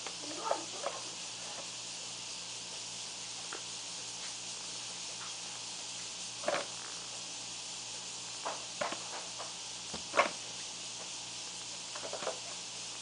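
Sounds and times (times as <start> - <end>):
recording hiss: 0.0 - 13.0.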